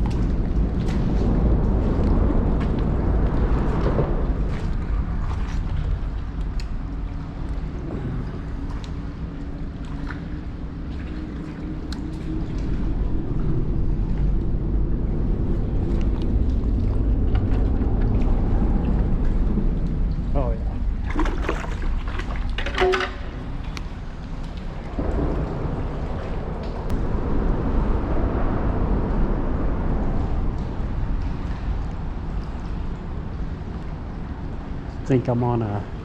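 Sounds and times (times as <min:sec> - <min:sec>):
wind buffeting microphone: 0:00.0 - 0:35.2.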